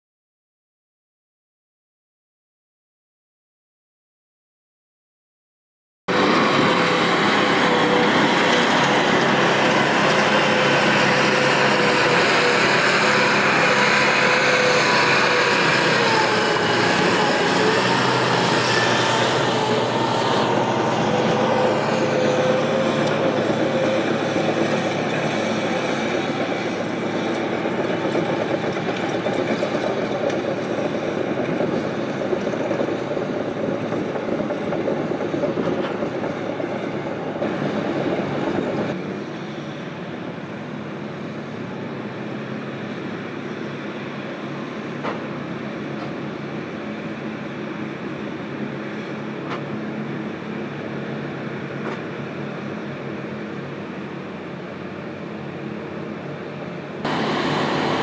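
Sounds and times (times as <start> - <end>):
crawler dozer: 6.1 - 58.0
scraper diesel engines under load: 6.1 - 58.0.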